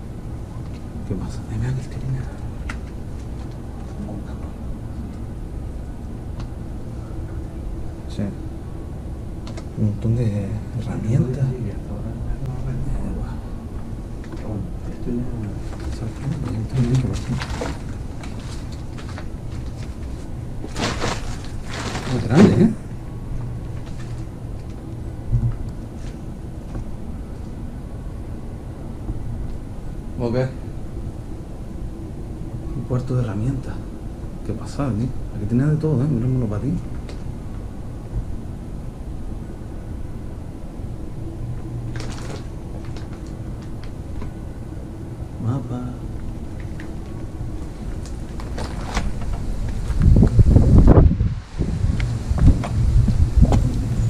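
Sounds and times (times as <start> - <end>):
low rumbling on microphone: 0.0 - 54.0.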